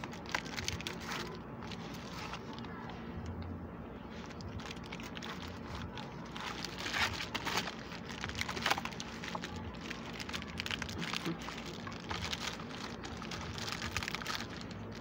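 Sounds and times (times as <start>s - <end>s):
paper rustling and crinkling: 0.0s - 2.8s, 4.1s - 15.0s.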